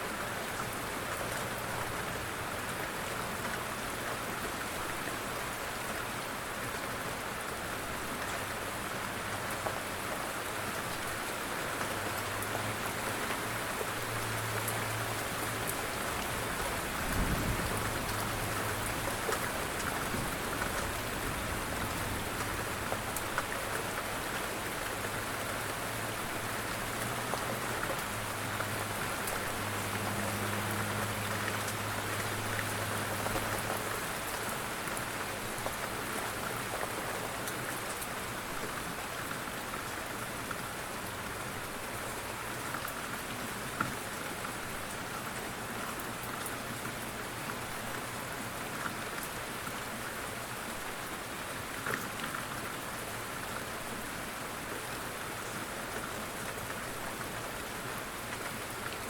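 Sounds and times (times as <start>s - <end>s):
light rain pattering: 0.0s - 59.0s.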